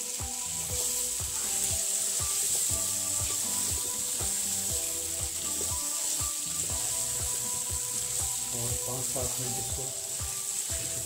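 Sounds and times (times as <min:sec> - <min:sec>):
background music with steady beat: 0:00.0 - 0:11.0
potatoes sizzling in oil: 0:00.0 - 0:11.0.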